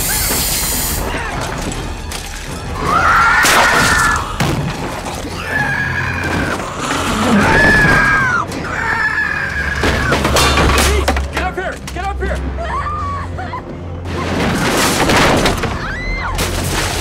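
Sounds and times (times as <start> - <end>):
film score music: 0.0 - 17.0.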